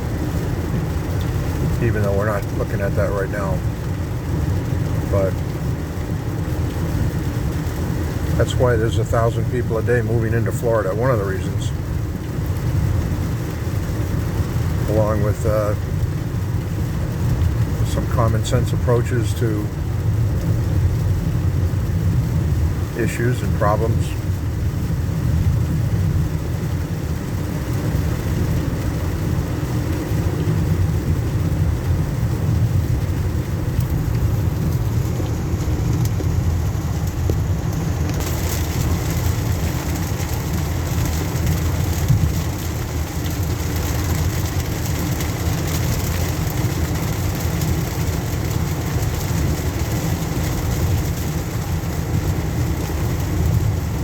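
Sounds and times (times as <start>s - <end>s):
hiss of rain and water: 0.0s - 54.0s
tyres and engine rumble: 0.0s - 54.0s.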